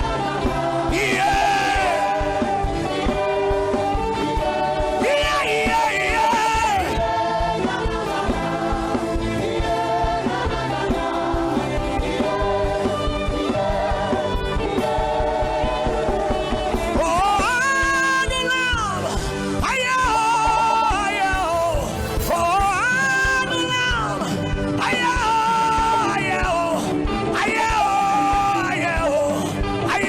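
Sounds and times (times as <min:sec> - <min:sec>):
gospel singing with instrumental backing: 0:00.0 - 0:30.0.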